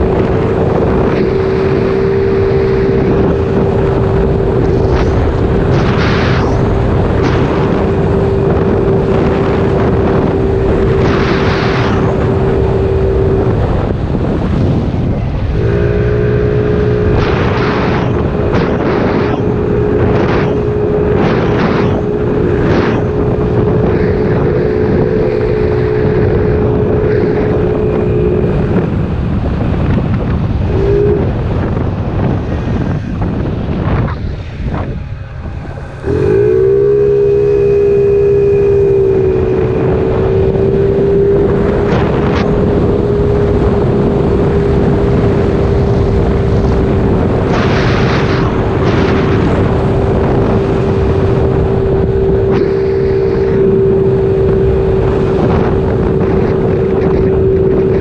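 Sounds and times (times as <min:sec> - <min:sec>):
scooter engine revving: 0:00.0 - 0:58.0
wind on microphone: 0:00.0 - 0:58.0.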